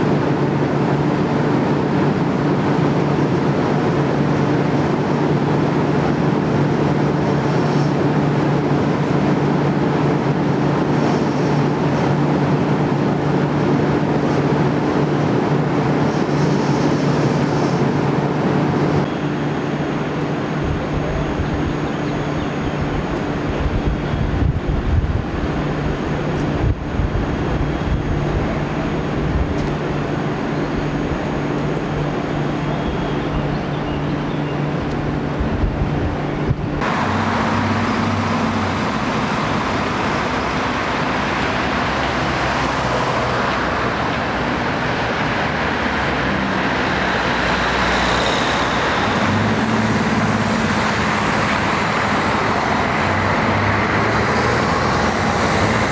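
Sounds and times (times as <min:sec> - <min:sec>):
buses driving past: 0:00.0 - 0:55.9
road traffic: 0:00.0 - 0:55.9
stationary train humming: 0:00.0 - 0:55.9.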